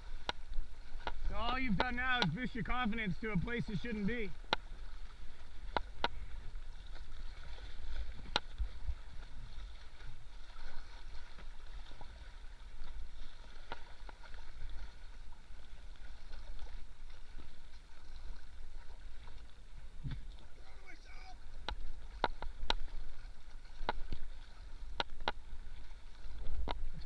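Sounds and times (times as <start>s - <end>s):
river water rushing: 0.0s - 26.4s.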